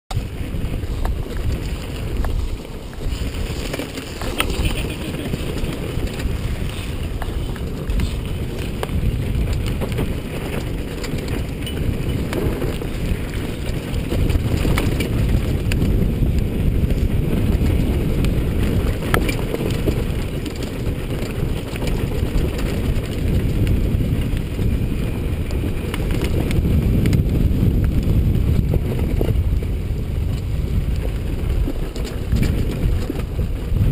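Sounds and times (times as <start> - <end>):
dirt bike engine: 0.1 - 33.9
wind buffeting on microphone: 0.1 - 33.9.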